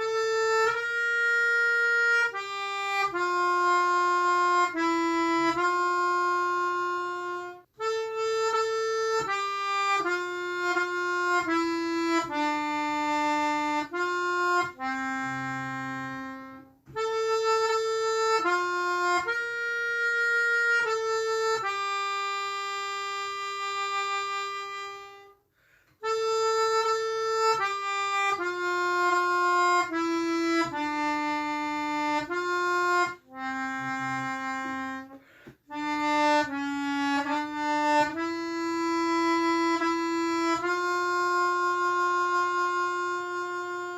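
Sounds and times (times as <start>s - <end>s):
harmonica playing slow melody: 0.0s - 43.9s.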